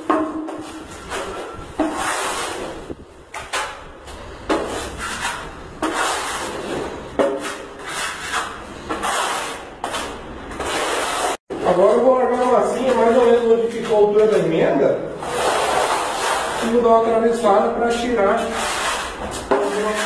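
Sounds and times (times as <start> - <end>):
trowel scraping plaster on wall: 0.1 - 14.4, 15.2 - 20.0.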